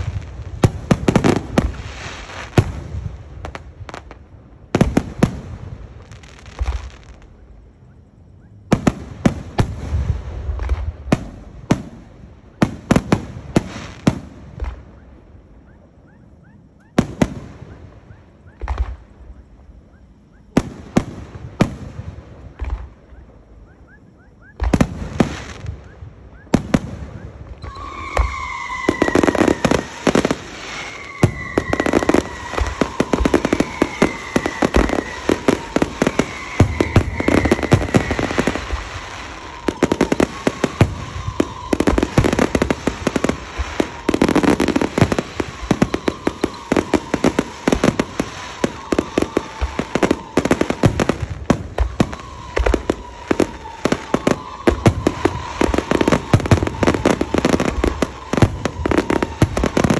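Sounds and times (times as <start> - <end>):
firework bangs: 0.0 - 7.4, 8.7 - 15.0, 16.9 - 19.3, 20.5 - 23.2, 24.4 - 59.9
crackling firework bursts and booms: 0.0 - 59.9.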